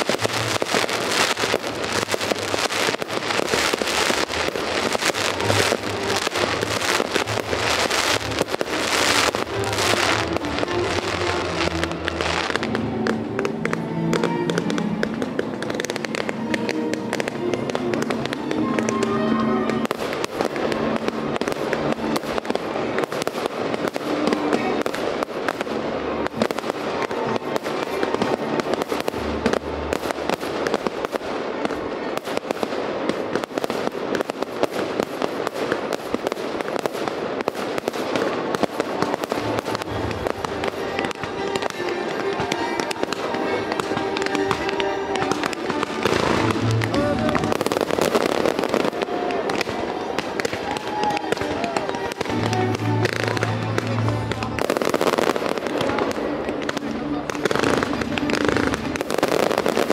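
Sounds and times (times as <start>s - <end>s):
show music: 0.0s - 31.9s, 38.2s - 59.9s
fireworks crackling: 0.0s - 59.9s.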